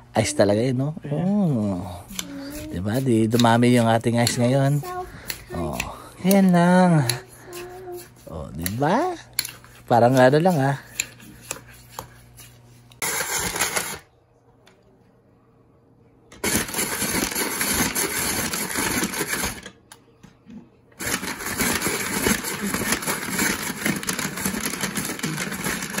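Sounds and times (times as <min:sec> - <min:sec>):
hand-cranked ice shaver grinding ice: 0:01.2 - 0:14.0, 0:16.4 - 0:19.7, 0:21.0 - 0:26.0.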